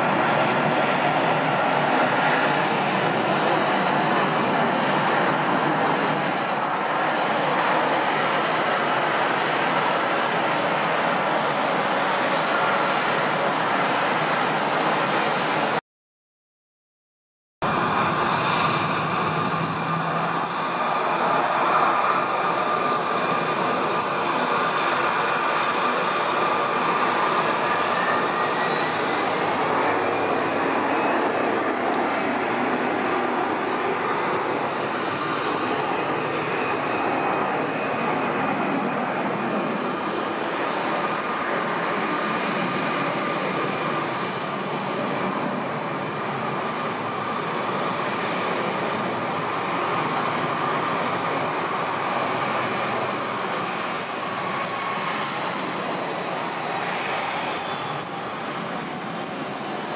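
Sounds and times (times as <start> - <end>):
jet engines whining: 0.0 - 15.8, 17.6 - 59.9.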